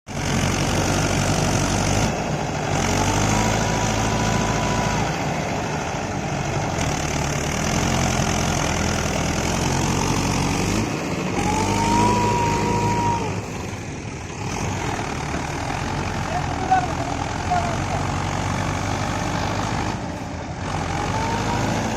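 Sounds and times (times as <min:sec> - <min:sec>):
diesel engine running under load: 0:00.1 - 0:21.9.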